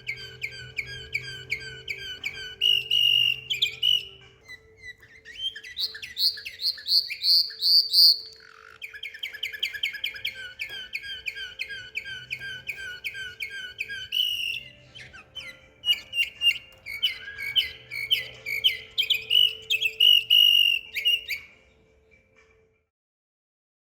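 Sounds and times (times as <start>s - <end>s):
canary singing: 0.0s - 22.1s.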